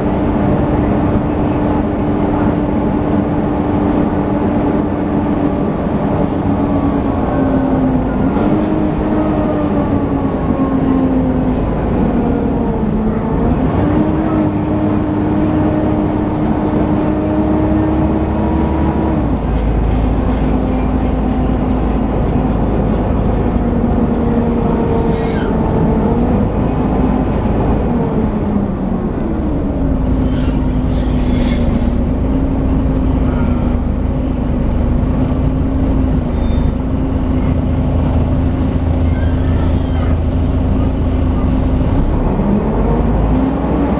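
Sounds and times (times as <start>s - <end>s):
bus engine whine over low rumble: 0.0s - 43.9s.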